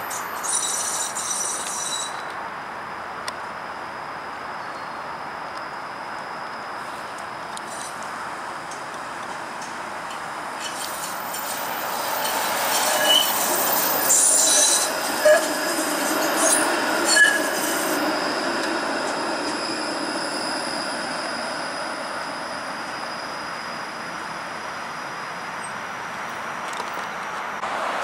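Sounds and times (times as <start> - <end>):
steel wheels squealing on rails: 0.0 - 2.4, 4.5 - 28.0
streetcar passing: 0.0 - 28.0.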